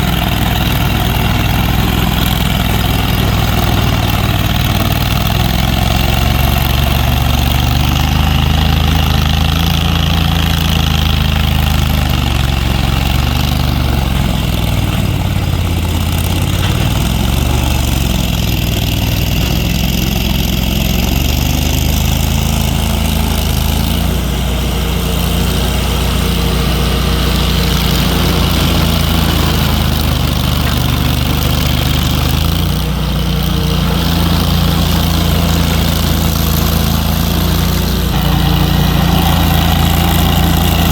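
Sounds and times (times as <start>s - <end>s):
heavy engine idling: 0.0s - 40.9s.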